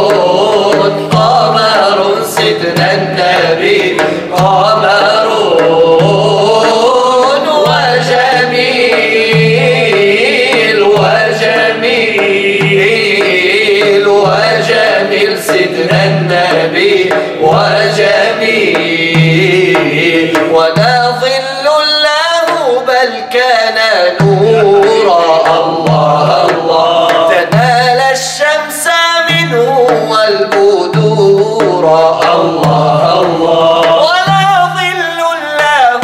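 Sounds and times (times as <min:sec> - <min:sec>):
hand-drum beats: 0:00.0 - 0:36.0
man singing devotional song: 0:00.0 - 0:36.0.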